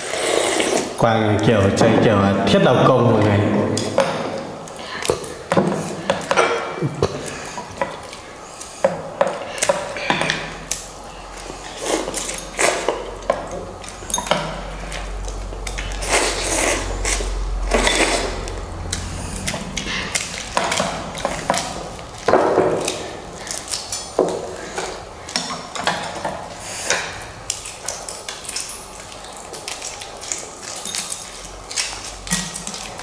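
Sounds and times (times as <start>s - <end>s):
utensils clinking against bowls: 3.3s - 33.0s.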